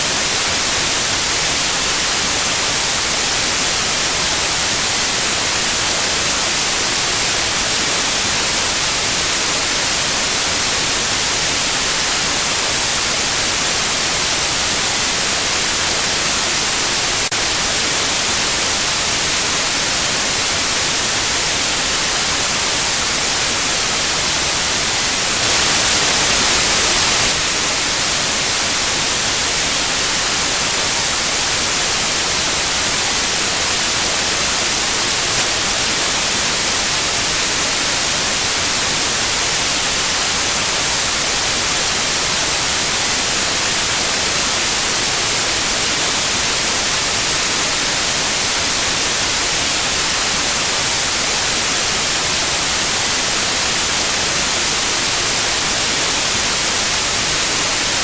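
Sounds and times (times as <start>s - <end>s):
high-pitched continuous tone: 0.0s - 58.0s
synthetic white noise: 0.0s - 58.0s.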